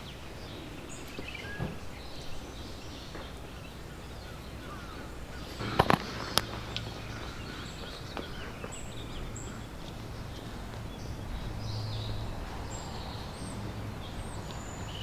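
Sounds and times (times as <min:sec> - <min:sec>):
steady background hush: 0:00.0 - 0:15.0.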